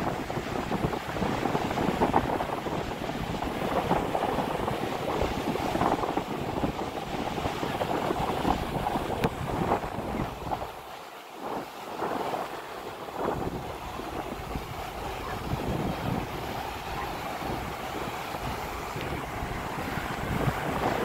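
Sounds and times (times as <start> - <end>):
surf breaking on shore: 0.0 - 21.0
wind buffeting microphone: 0.0 - 21.0.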